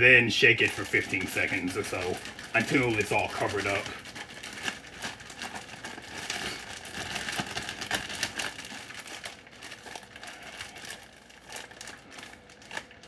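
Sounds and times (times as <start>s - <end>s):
plastic bag crinkling and rustling: 0.2s - 13.0s.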